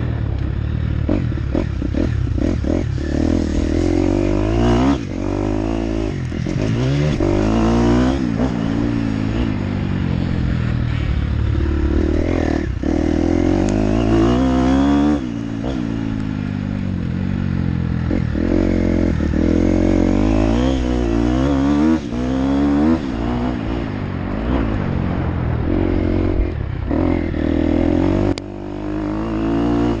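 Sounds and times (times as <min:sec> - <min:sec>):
dirt bike engine revving: 0:00.9 - 0:30.0.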